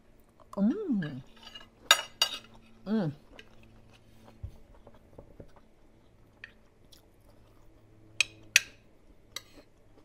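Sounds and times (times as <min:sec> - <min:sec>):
person chewing: 0:01.7 - 0:10.0.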